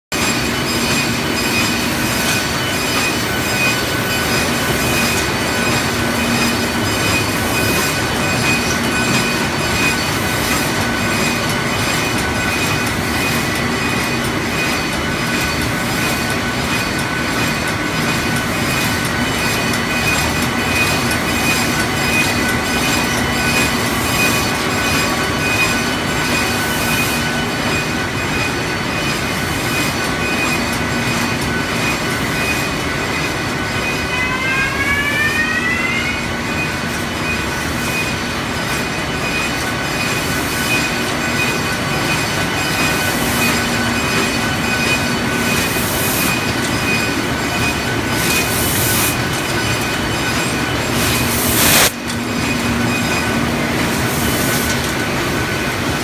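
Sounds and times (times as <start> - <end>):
machinery clatter: 0.1 - 34.2, 36.4 - 56.0
high machine whine: 0.1 - 56.0.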